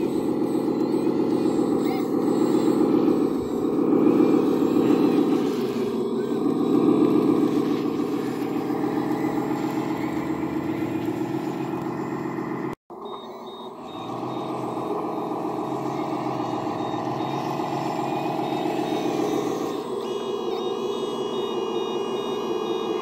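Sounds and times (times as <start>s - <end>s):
faint reversing beep: 0.0s - 23.0s
toy dump truck running: 0.0s - 23.0s.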